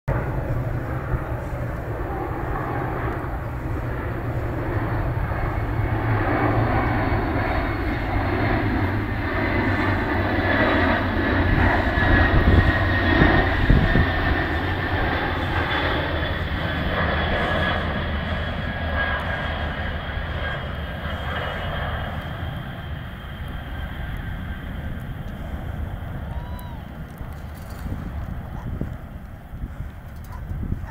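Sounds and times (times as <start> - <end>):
jet engines passing overhead: 0.1 - 30.9
steady high whine: 0.1 - 30.9.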